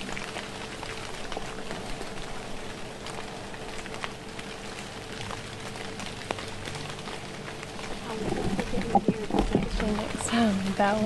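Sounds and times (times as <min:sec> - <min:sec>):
faint steady hum: 0:00.0 - 0:11.0
light rain pattering: 0:00.0 - 0:11.0.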